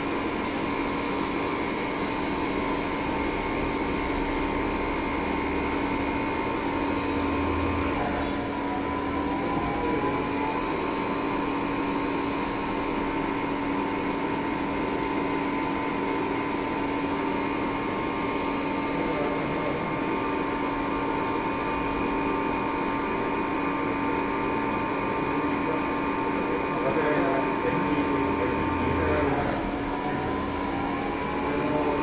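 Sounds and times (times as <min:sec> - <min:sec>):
lathe machine hum: 0:00.0 - 0:32.0
whining machine tones: 0:00.0 - 0:32.0.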